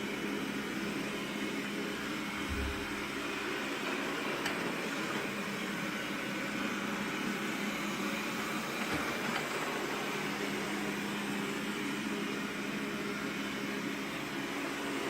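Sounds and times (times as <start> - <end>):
robot vacuum cleaner running: 0.0 - 15.0.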